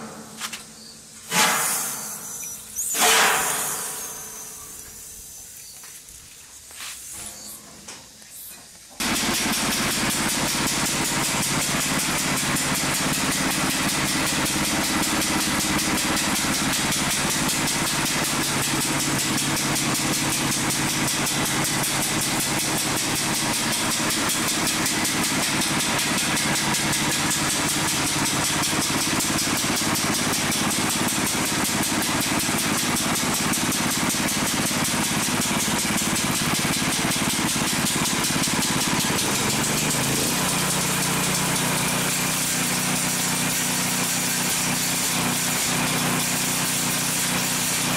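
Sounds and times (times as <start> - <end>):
small petrol engine running: 9.0 - 47.9.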